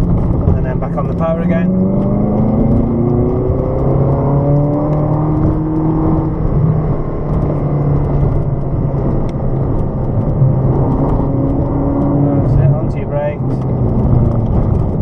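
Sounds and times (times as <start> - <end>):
car engine under throttle: 0.0 - 15.0
road and wind rumble: 0.0 - 15.0.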